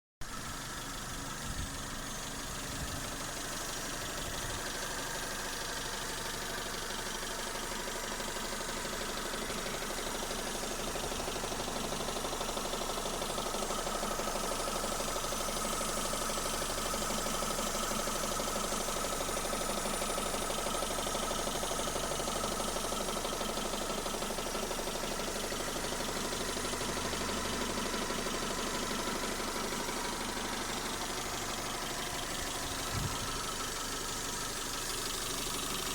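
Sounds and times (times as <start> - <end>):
car engine idling: 0.2 - 35.9
rapid engine knocking: 0.5 - 35.9.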